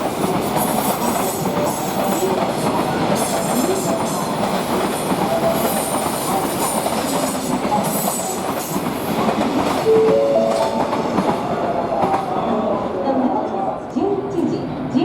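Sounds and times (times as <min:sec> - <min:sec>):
train wheels rumbling and clattering: 0:00.0 - 0:12.7.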